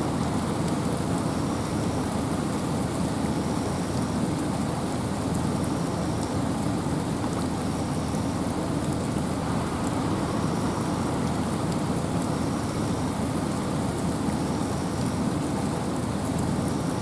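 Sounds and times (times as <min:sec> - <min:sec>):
rain: 0:00.0 - 0:17.0
wind: 0:00.0 - 0:17.0.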